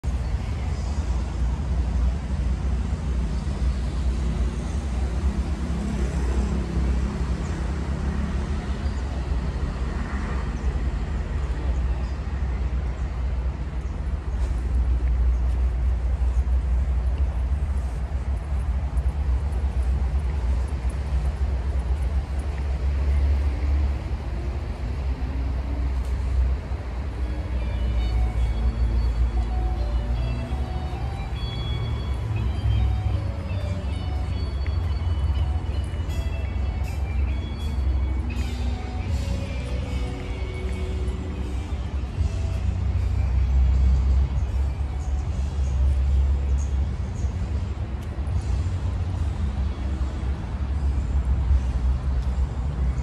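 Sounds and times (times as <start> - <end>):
low outdoor rumble: 0.0 - 53.0.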